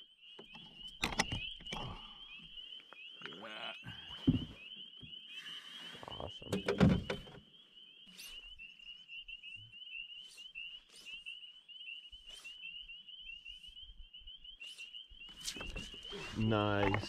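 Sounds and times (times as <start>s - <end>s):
chorus of high chirps: 0.0s - 17.0s.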